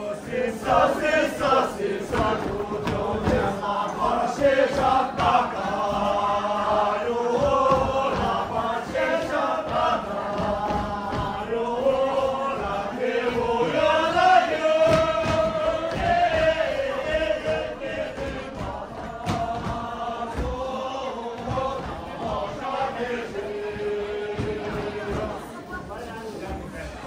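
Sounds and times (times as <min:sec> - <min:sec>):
steady beat: 0:00.0 - 0:25.7
group singing in unison: 0:00.0 - 0:27.0.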